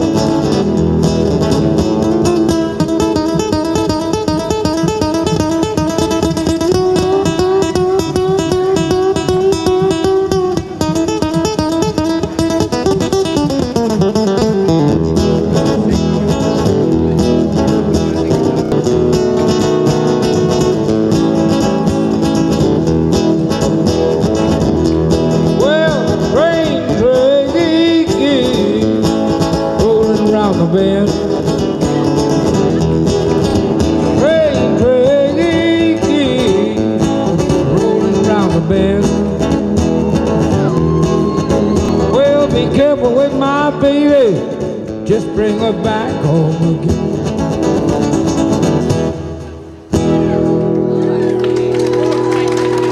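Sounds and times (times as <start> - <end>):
sliding bending guitar notes: 0.0 - 52.9.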